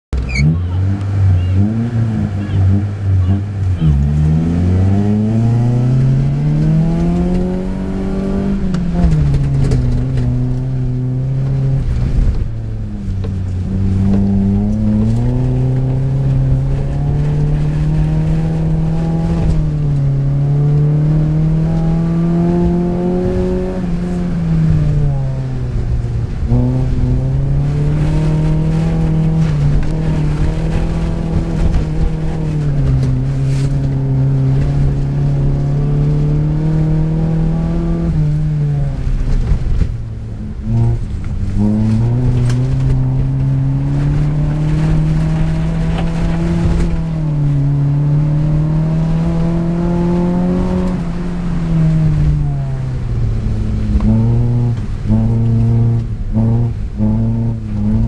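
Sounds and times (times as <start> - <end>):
car engine revving: 0.2 - 58.0.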